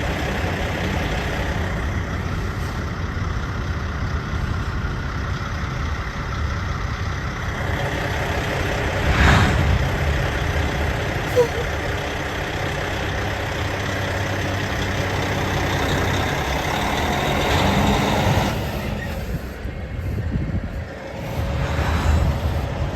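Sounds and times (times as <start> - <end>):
diesel engines rumbling: 0.0 - 22.9.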